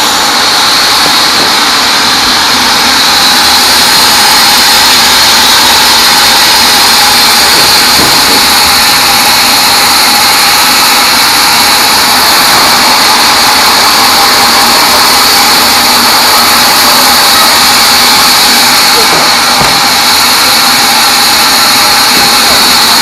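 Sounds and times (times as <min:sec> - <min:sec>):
band saw whining: 0:00.0 - 0:23.0.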